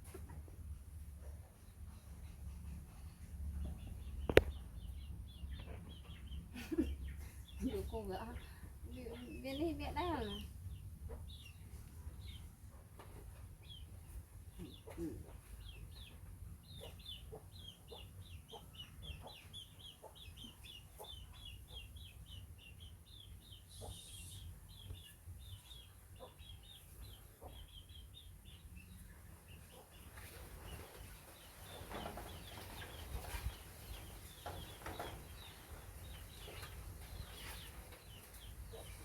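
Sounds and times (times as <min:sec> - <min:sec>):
chicks peeping: 0:00.0 - 0:39.0.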